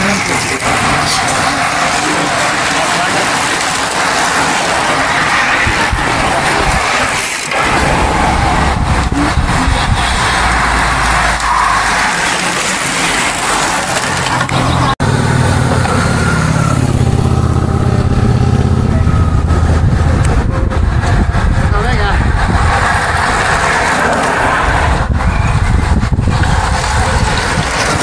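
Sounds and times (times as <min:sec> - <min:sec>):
loud rushing noise: 0:00.0 - 0:28.0
low engine drone: 0:00.0 - 0:28.0
vehicle engine running: 0:00.0 - 0:28.0.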